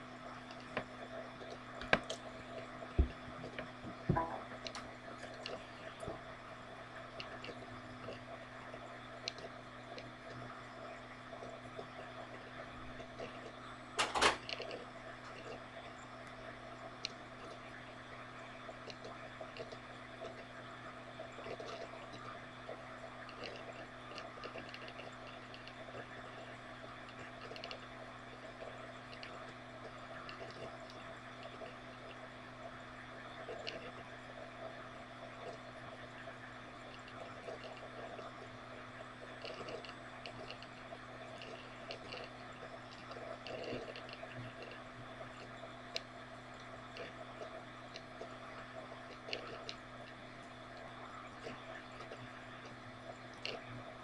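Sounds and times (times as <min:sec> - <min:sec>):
low electrical hum: 0:00.0 - 0:54.0
small clicks and crackles: 0:00.0 - 0:54.0.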